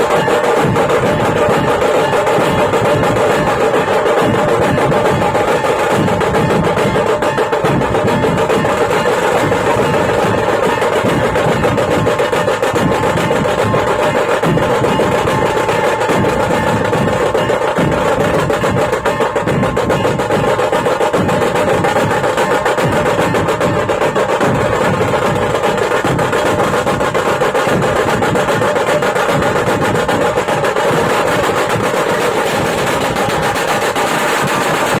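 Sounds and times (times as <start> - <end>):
fast continuous drumming: 0.0 - 35.0
music: 0.0 - 35.0.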